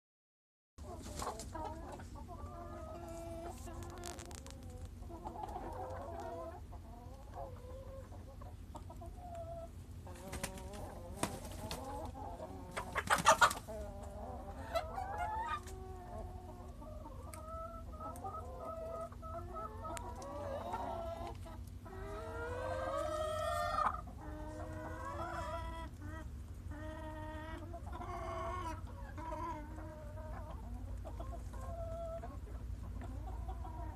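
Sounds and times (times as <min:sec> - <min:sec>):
hens clucking and squawking: 0:00.8 - 0:33.9.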